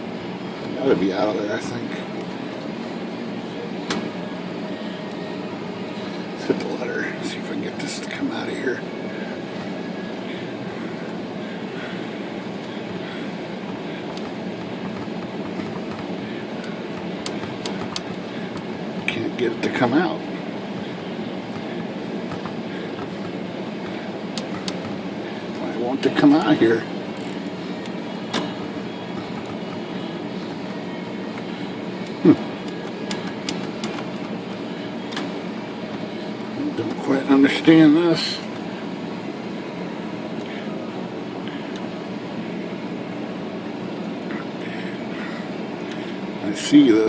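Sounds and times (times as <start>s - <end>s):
low rumbling background noise: 0.0s - 47.0s
steady background hum: 0.0s - 47.0s.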